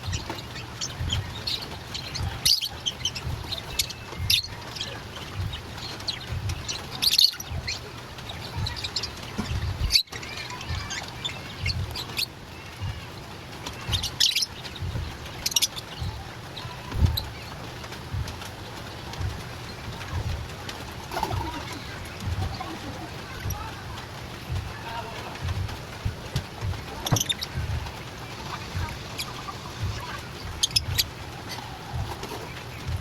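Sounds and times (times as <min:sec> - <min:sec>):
lovebirds chirping: 0:00.0 - 0:33.0.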